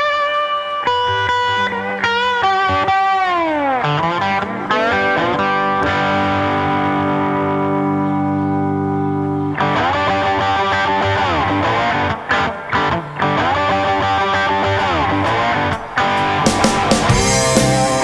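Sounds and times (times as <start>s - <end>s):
overdriven electric guitar bends: 0.0s - 18.0s.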